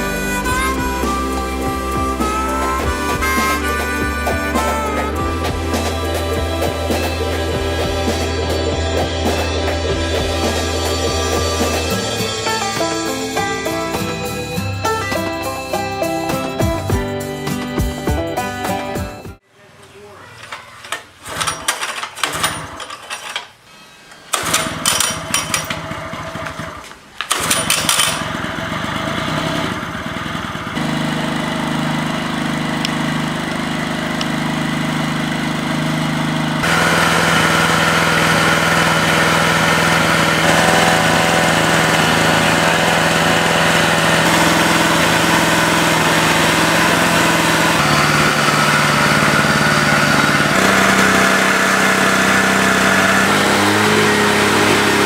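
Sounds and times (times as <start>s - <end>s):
generator engine running: 0.0s - 19.4s, 24.3s - 55.0s.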